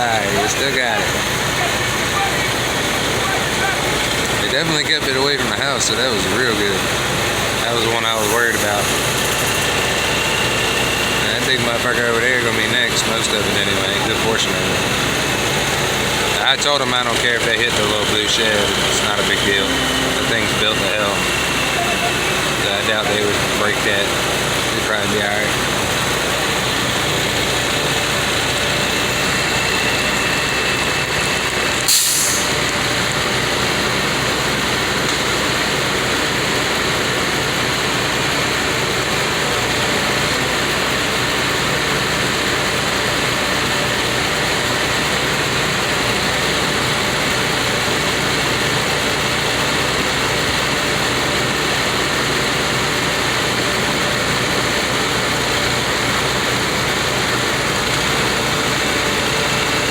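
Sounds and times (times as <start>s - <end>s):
heavy crane engine running: 0.0s - 59.9s.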